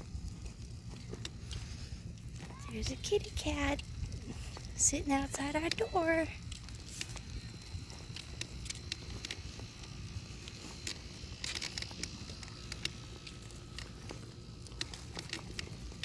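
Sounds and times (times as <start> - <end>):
footsteps crunching: 0.0 - 16.0
low steady rumble: 0.0 - 16.0.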